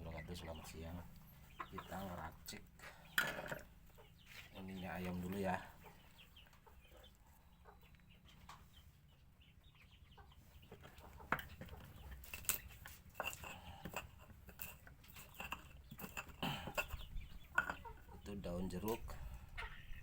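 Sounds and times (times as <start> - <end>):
chickens clucking faintly: 0.0 - 20.0.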